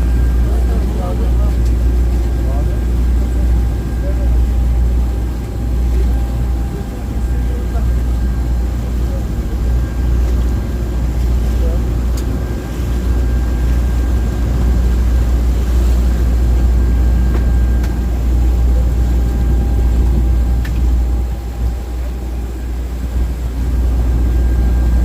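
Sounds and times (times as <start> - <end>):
motorboat engine droning: 0.0 - 25.0
water wash: 0.0 - 25.0
wind: 0.0 - 25.0.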